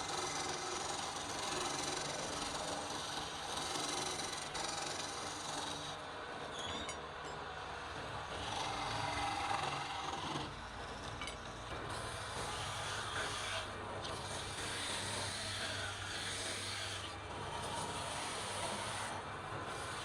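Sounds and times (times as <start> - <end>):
tool scraping spinning wood: 0.0 - 6.0, 8.3 - 20.0
lathe hum: 0.0 - 6.3, 7.1 - 20.0.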